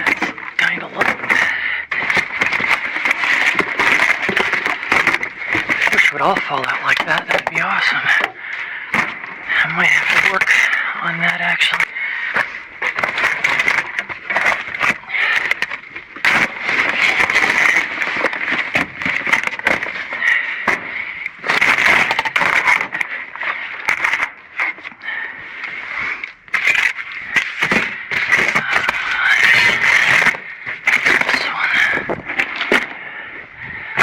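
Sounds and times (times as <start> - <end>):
cardboard crackling and rustling: 0.0 - 8.3, 9.0 - 23.1, 23.8 - 24.8, 26.4 - 32.9.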